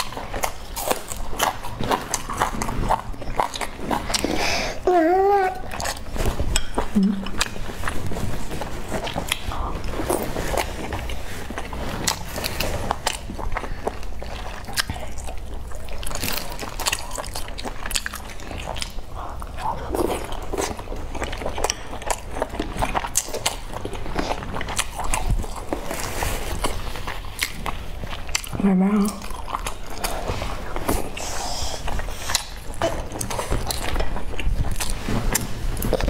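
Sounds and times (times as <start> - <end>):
person chewing: 0.0 - 36.0.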